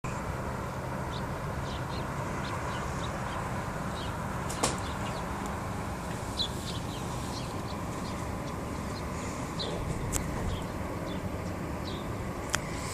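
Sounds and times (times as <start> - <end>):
steady background hum: 0.1 - 12.9
small birds chirping: 1.0 - 12.9.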